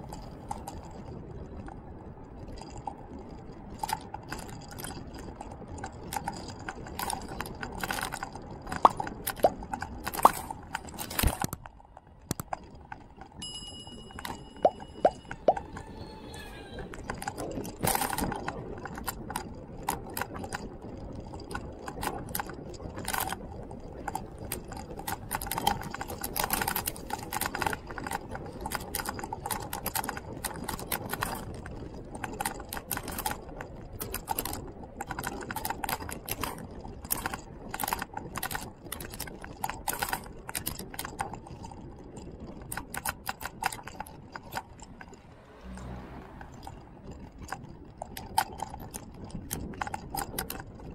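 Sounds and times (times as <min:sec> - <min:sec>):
low rolling road rumble: 0:00.0 - 0:50.9.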